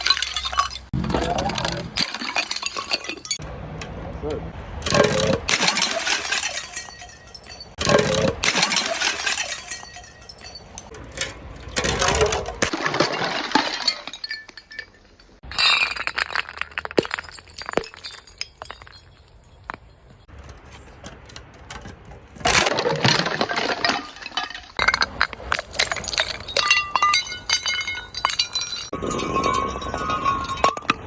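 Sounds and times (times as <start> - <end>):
glass crunching and shattering: 0.0 - 3.4, 4.8 - 20.3, 22.4 - 31.0
glass pieces clinking: 0.0 - 3.4, 4.9 - 11.2, 11.8 - 20.3, 22.6 - 31.0.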